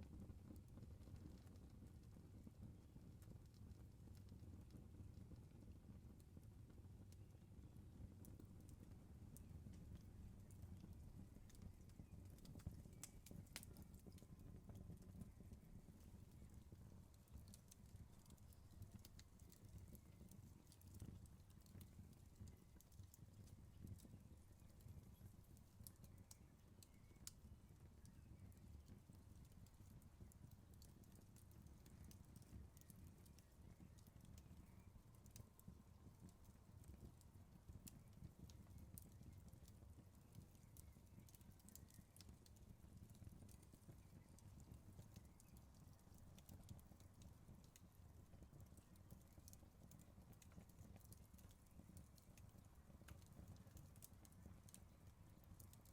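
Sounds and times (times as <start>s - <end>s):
low rumble of burning fire: 0.0s - 55.9s
wood fire pops and snaps: 8.2s - 27.4s, 28.0s - 55.9s.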